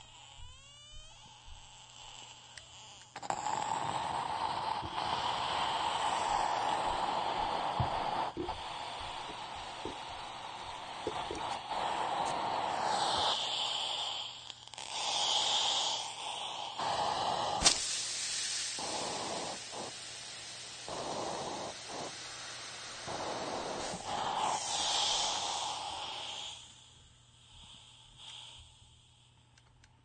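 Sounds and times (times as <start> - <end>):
steam iron hissing: 0.0 - 29.4.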